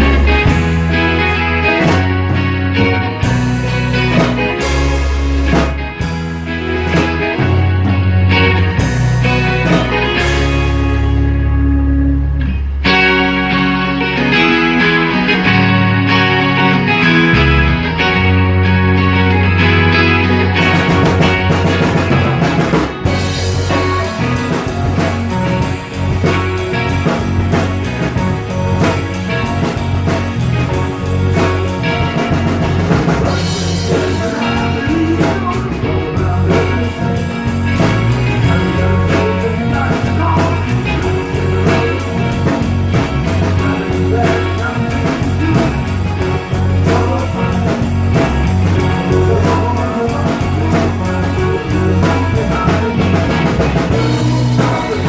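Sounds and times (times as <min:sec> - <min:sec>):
drum kit beat: 0:00.0 - 0:11.5, 0:18.9 - 0:55.0
rock band playing: 0:00.0 - 0:55.0.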